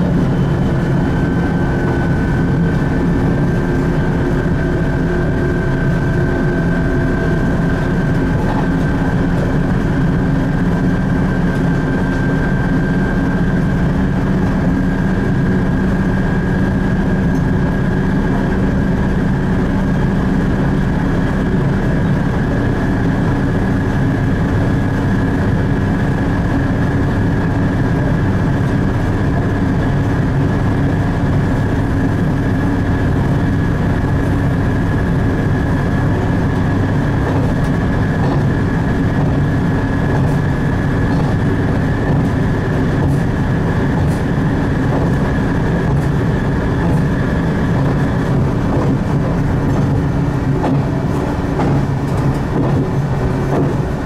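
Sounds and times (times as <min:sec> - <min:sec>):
diesel engine drone: 0:00.0 - 0:54.0
rail noise: 0:00.0 - 0:54.0.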